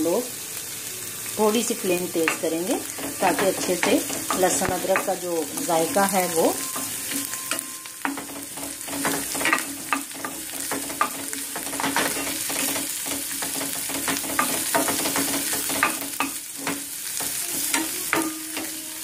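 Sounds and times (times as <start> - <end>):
onion sizzling in a frying pan: 0.0 - 19.0
spatula scraping and tapping pan: 2.2 - 18.8.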